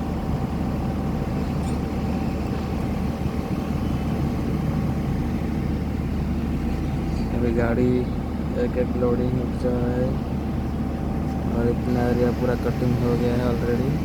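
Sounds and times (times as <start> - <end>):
excavators rumbling: 0.0 - 14.0
faint steady whine: 0.0 - 14.0.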